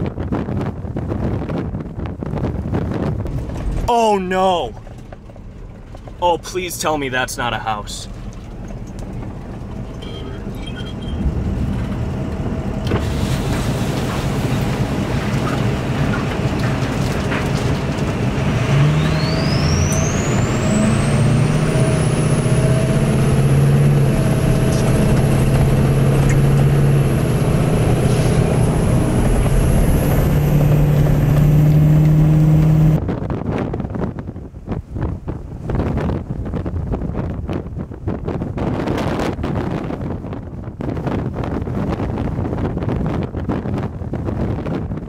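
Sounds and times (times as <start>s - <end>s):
car engine hum: 0.0s - 45.0s
wind rushing past car: 0.0s - 45.0s.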